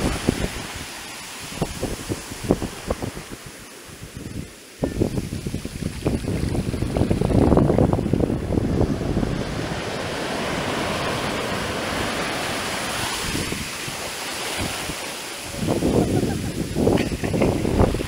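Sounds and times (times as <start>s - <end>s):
foamy wash rushing up shore: 0.0s - 18.0s
ocean waves breaking: 0.0s - 18.0s
wind buffeting microphone: 0.0s - 18.0s.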